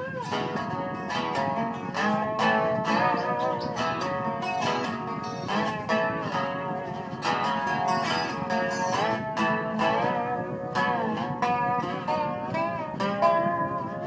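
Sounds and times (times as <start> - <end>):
slide guitar melody: 0.0 - 14.0.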